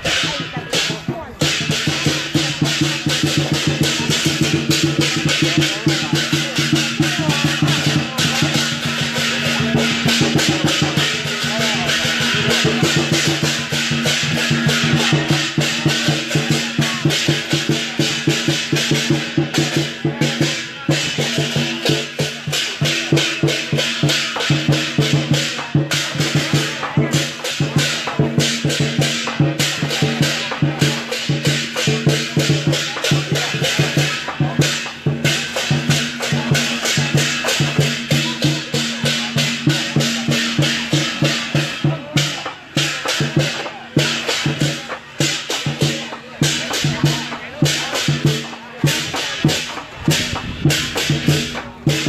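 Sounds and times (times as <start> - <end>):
drum and cymbals beaten rapidly: 0.0 - 52.0.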